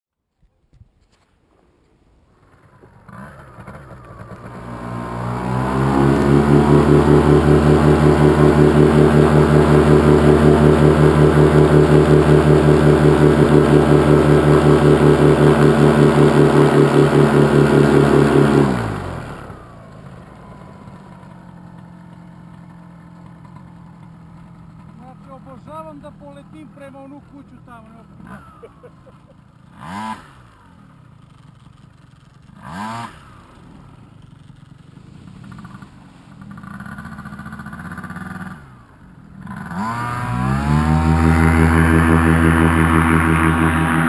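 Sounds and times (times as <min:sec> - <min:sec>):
paramotor engine revving: 0:02.9 - 0:21.4, 0:23.4 - 0:31.4, 0:32.5 - 0:34.3, 0:35.2 - 0:44.0.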